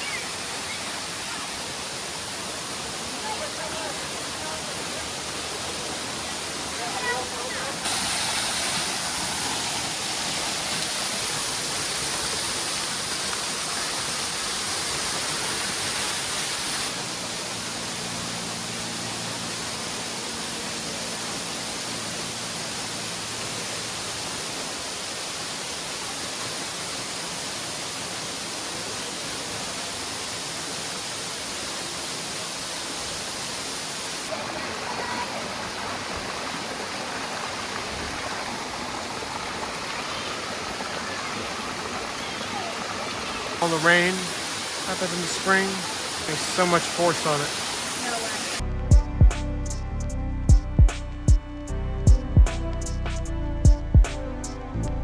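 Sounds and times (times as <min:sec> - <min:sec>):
waterfall rushing: 0:00.0 - 0:48.6.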